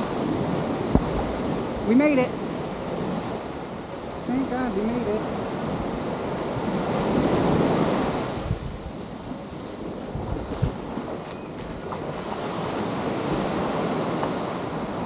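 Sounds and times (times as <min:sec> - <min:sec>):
ocean waves washing ashore: 0:00.0 - 0:15.0
wind buffeting microphone: 0:00.0 - 0:15.0.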